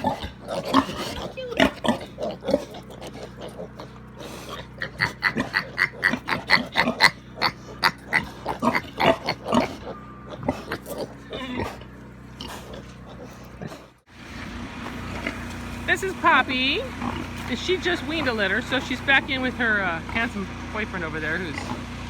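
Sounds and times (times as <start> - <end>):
pigs grunting and squealing: 0.0 - 22.0.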